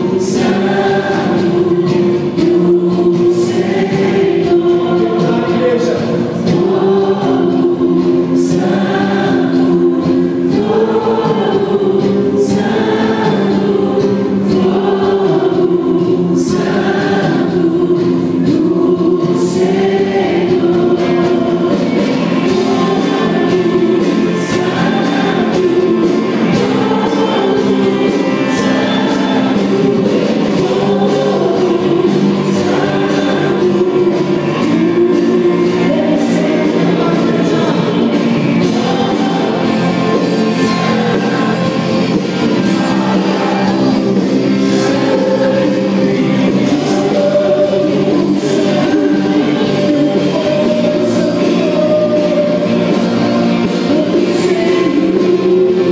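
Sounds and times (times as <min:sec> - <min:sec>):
group singing worship song with band: 0:00.0 - 0:55.9.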